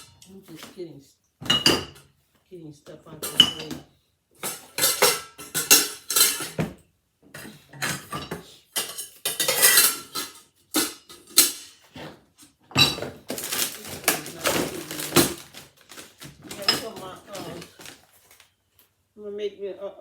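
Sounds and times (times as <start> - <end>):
dishes and pots clattering: 0.0 - 0.6, 1.4 - 2.1, 3.2 - 18.4.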